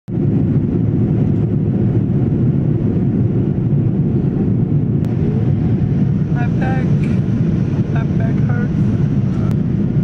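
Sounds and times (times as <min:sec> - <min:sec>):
airliner cabin rumble: 0:00.1 - 0:10.0.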